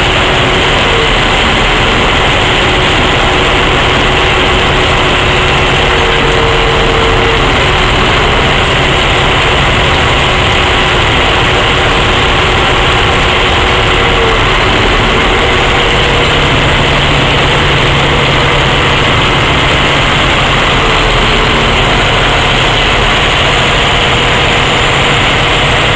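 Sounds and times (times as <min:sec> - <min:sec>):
diesel engine running: 0:00.0 - 0:25.9
tamping machine working: 0:00.0 - 0:25.9.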